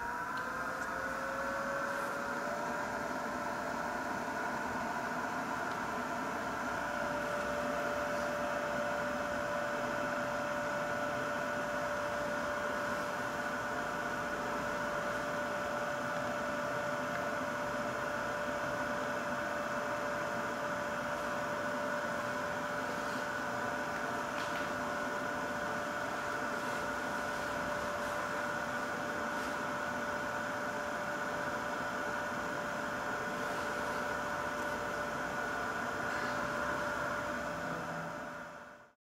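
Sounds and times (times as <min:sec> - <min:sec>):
hot-air blower fan rushing: 0:00.0 - 0:39.0
steady whine: 0:00.0 - 0:39.0.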